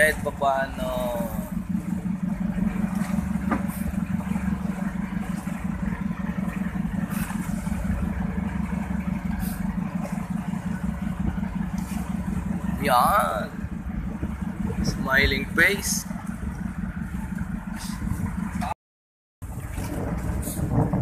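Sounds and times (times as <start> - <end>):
boat engine running: 0.0 - 18.8, 19.4 - 21.0.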